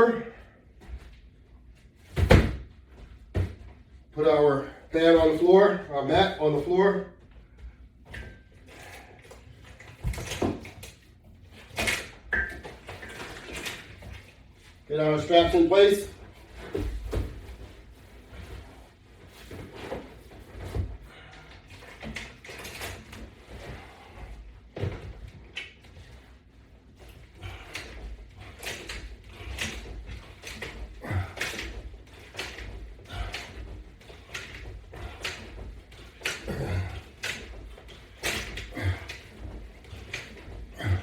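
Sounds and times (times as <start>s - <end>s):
straps knocking and rustling: 0.8s - 41.0s.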